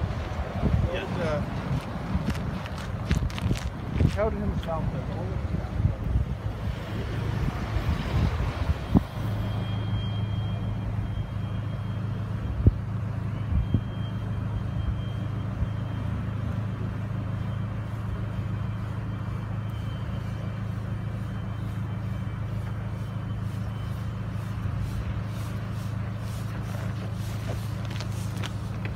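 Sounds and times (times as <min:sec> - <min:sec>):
cars passing: 0:00.0 - 0:28.9
low engine hum: 0:00.0 - 0:28.9.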